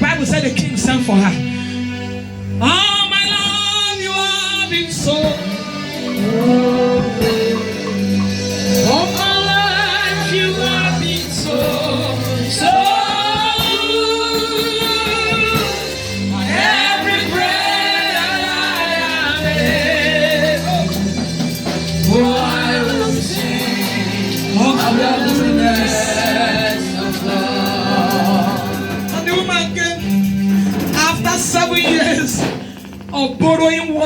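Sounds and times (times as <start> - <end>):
gospel singing with vibrato: 0.0 - 34.0.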